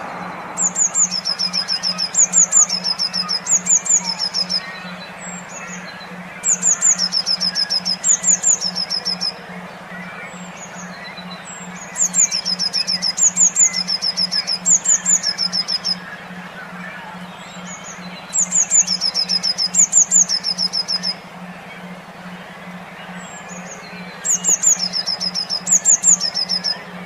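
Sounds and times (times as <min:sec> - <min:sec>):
low pulsing hum: 0:00.0 - 0:27.0
songbird singing: 0:00.0 - 0:27.0.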